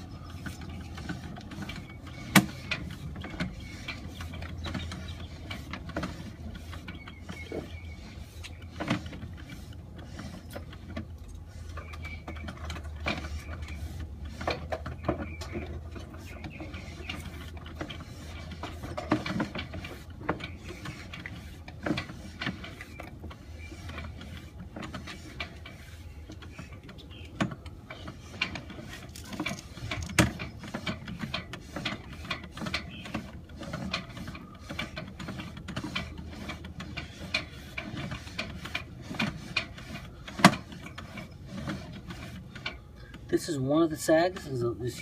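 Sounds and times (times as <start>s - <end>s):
cable reel clicking and knocking: 0.0s - 43.2s
low steady hum: 0.0s - 45.0s.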